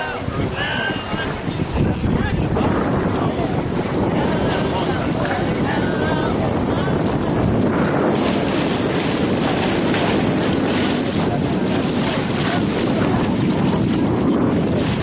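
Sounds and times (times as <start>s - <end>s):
rushing water: 0.0s - 15.0s
wind buffeting microphone: 0.0s - 15.0s.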